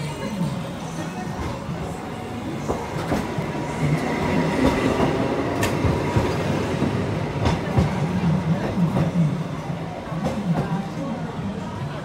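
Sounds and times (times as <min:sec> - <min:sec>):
streetcar rolling on rails: 0:00.0 - 0:12.0.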